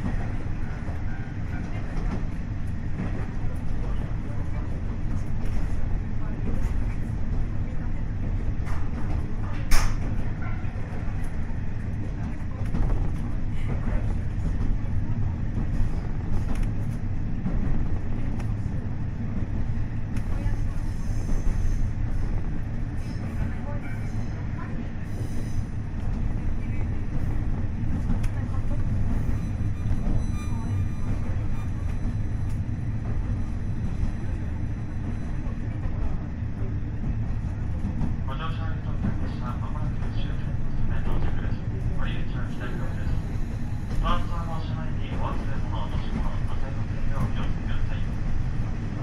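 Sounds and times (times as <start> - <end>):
railcar engine and wheels rumbling: 0.0 - 49.0.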